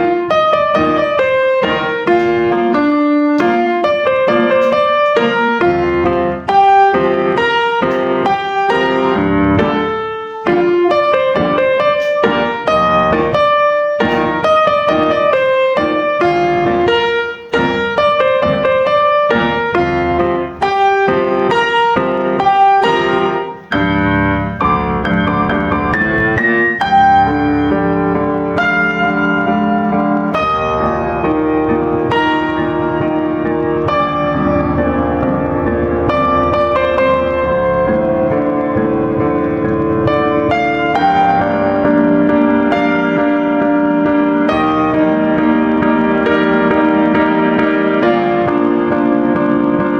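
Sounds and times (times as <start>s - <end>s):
piano music: 0.0s - 49.9s.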